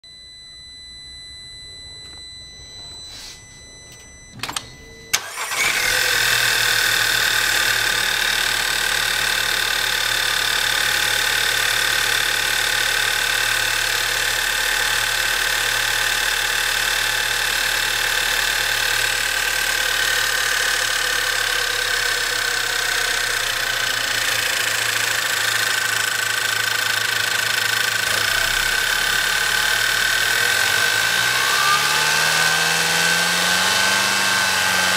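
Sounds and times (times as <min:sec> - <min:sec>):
car engine starting and idling: 0:03.8 - 0:34.9.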